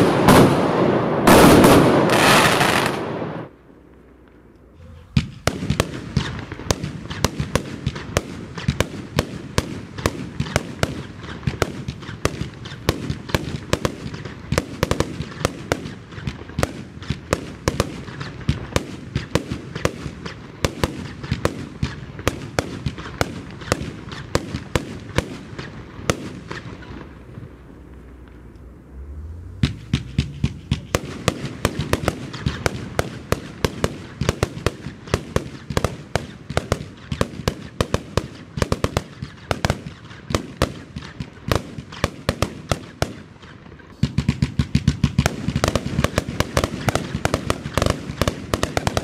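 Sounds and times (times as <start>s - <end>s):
firework crackling: 0.0s - 49.0s
firework shots: 0.0s - 49.0s.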